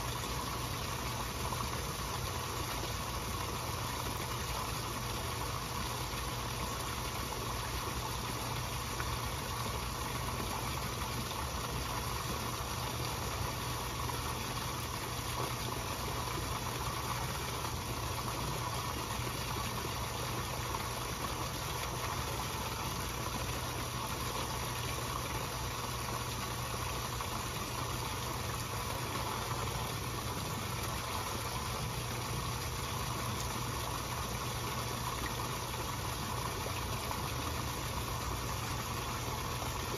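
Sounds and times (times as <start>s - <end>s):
pond pump humming: 0.0s - 39.9s.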